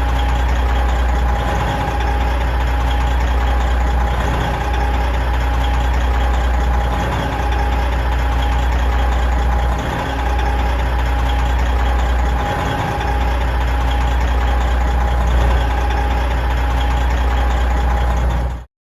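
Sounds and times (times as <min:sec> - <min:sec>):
truck diesel engine idling: 0:00.0 - 0:18.7.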